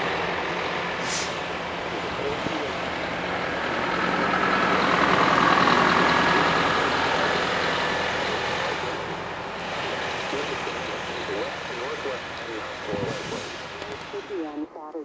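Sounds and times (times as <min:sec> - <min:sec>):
heavy vehicle passing by: 0:00.0 - 0:14.8.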